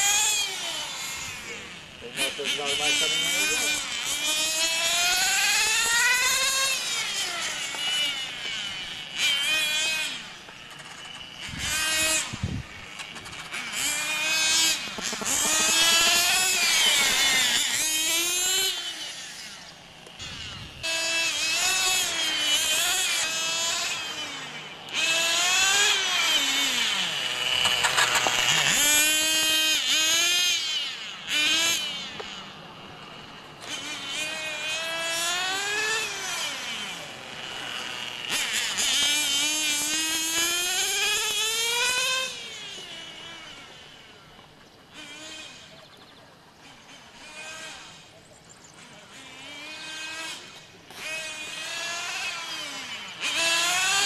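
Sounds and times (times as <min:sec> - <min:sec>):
model motorcycle motor revving: 0:00.0 - 0:54.0.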